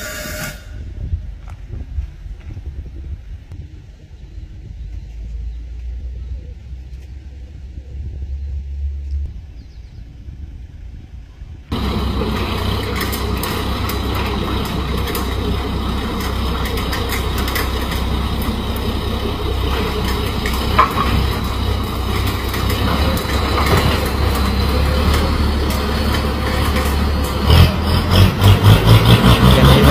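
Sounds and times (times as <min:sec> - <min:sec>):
tractor engine rumbling: 0:00.0 - 0:29.9.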